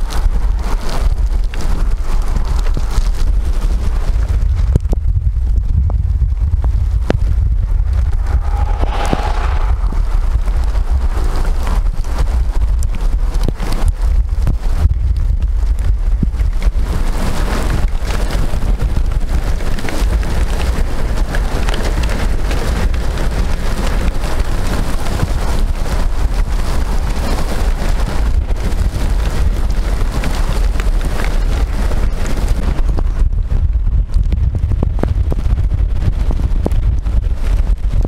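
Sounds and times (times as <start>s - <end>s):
heavy rain falling: 0.0s - 8.8s, 9.5s - 38.0s
wind gusting over microphone: 0.0s - 38.0s.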